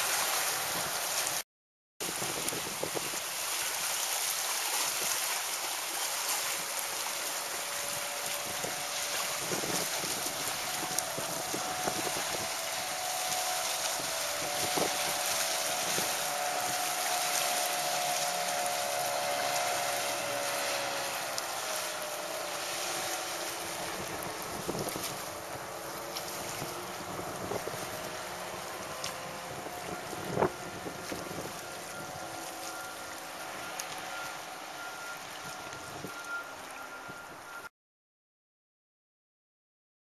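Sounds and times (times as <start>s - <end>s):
outboard engine running: 0.0s - 1.4s, 2.0s - 37.6s
wind noise on microphone: 0.0s - 1.4s, 2.0s - 4.1s, 6.3s - 34.2s, 34.8s - 37.4s.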